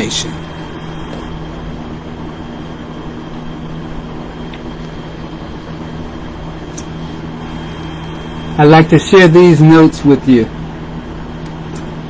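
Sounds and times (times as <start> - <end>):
steady low drone hum: 0.0 - 12.0.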